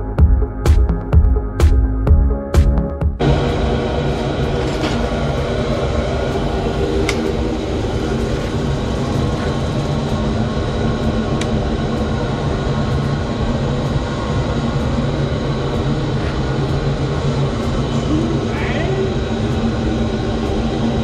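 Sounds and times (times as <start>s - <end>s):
steady machine drone: 3.2s - 21.0s.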